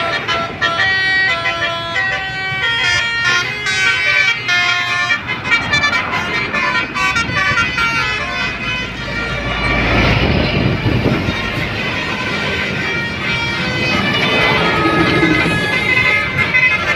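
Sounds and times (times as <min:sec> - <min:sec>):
bus engine and tyres passing: 0:00.0 - 0:16.9
musical bus horn playing a tune: 0:00.0 - 0:16.9.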